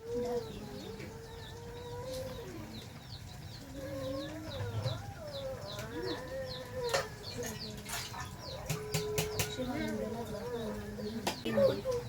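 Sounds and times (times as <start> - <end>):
chickens wavering calls: 0.0 - 12.0
chicks peeping: 0.0 - 12.0.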